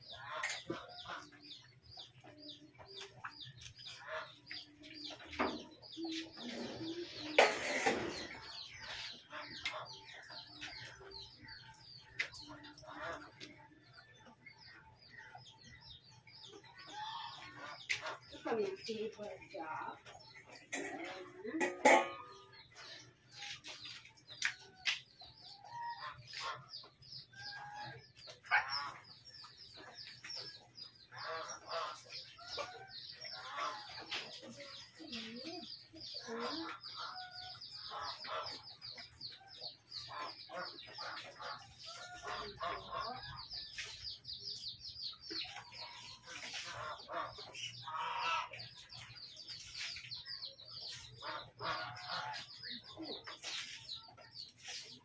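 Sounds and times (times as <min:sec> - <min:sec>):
chicken clucking: 0:00.0 - 0:55.0.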